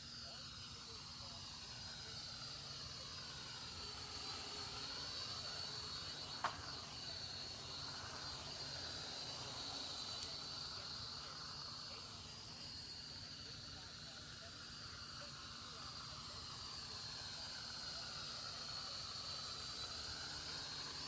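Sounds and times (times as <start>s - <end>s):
crickets chirping: 0.0s - 21.0s
drone motors whirring: 0.0s - 21.0s.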